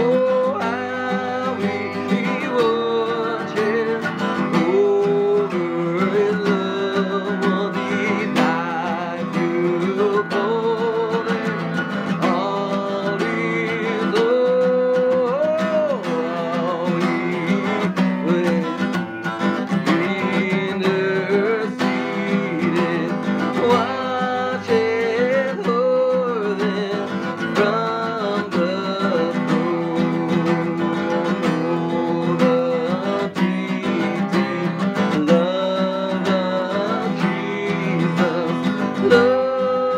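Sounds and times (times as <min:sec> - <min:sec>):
person singing a hymn: 0:00.0 - 0:19.2, 0:19.8 - 0:39.9
acoustic guitar: 0:00.0 - 0:39.9.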